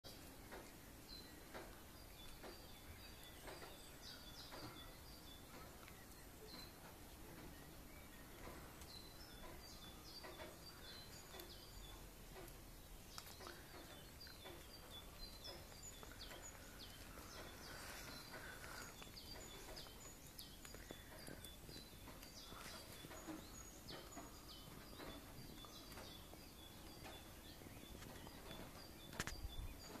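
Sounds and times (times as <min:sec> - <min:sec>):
small birds chirping: 0:00.0 - 0:30.0
background hiss: 0:00.1 - 0:30.0.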